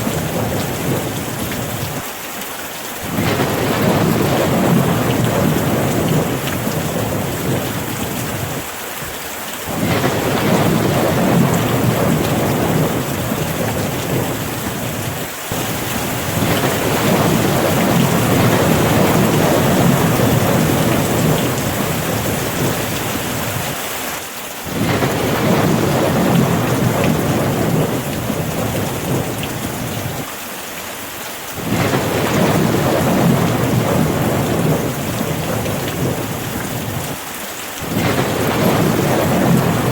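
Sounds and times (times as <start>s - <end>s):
thunder rumbling: 0.0s - 2.0s, 3.0s - 8.7s, 9.7s - 23.8s, 24.7s - 30.3s, 31.6s - 37.2s, 37.8s - 39.9s
heavy rain falling: 0.0s - 39.9s.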